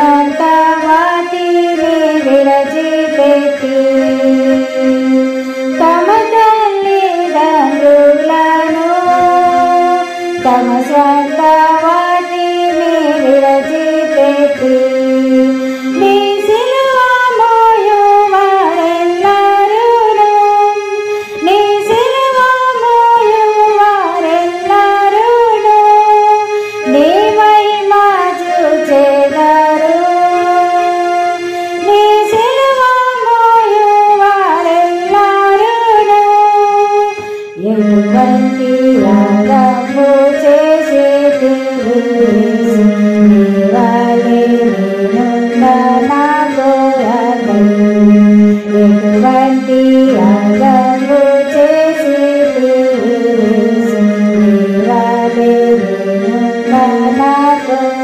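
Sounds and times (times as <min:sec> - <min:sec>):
melodic song with singing: 0:00.0 - 0:58.0.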